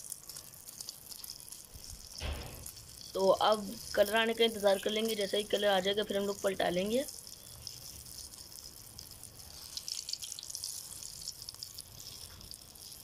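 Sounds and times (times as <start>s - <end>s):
patty sizzling in hot oil: 0.0s - 13.0s.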